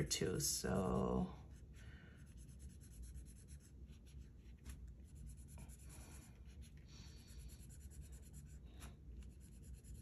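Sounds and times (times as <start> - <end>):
marker scratching on paper: 1.5 - 10.0.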